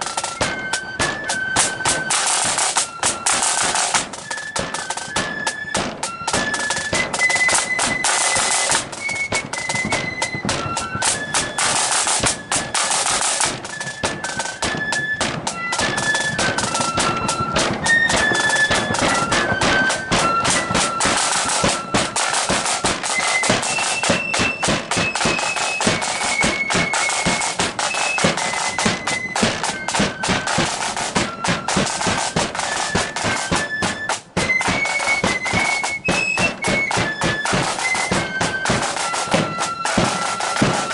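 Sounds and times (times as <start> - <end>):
flutes playing melody: 0.0 - 40.9
snare and bass drumming: 0.0 - 40.9.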